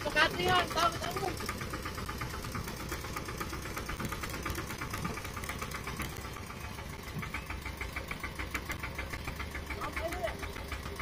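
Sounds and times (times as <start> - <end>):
tractor engine knocking: 0.0 - 11.0.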